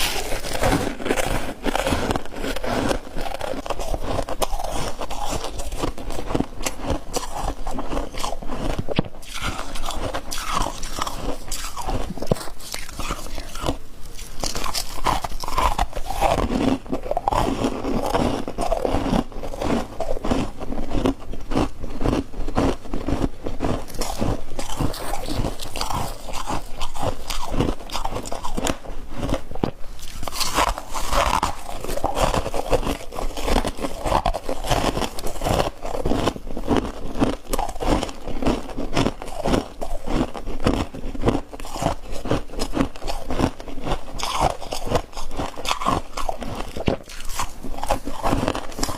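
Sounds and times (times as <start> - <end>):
person crunching ice: 0.0 - 48.9.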